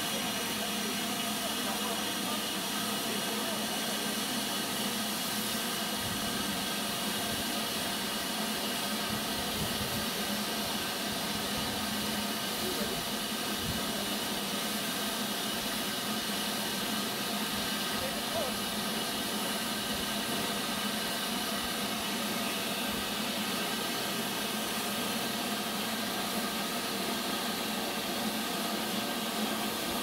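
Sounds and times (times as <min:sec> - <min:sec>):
steam hissing: 0:00.0 - 0:30.0.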